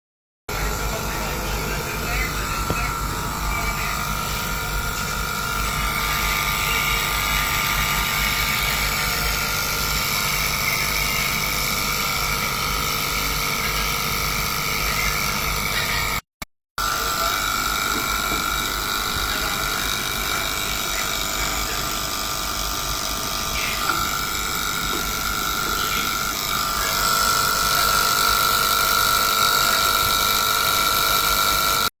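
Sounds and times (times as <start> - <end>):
microwave oven whining hum: 0.5 - 16.2, 16.8 - 31.9.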